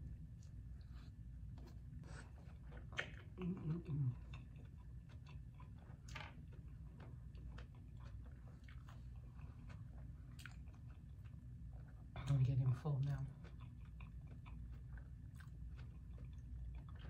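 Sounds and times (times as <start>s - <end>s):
chewing food with mouth clicks: 0.2s - 17.0s.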